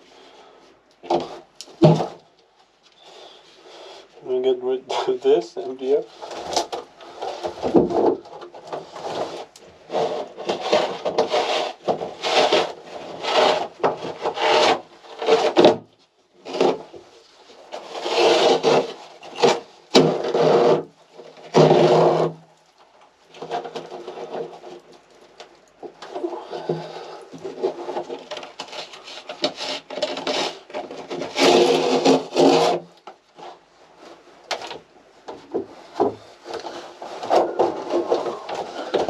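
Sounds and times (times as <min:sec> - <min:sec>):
wood rasping and scraping: 0:03.0 - 0:22.4, 0:23.3 - 0:39.0.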